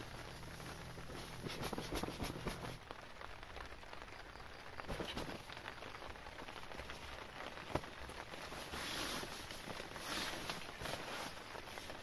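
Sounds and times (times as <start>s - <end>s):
rain on a tarp and tent: 0.0s - 12.0s.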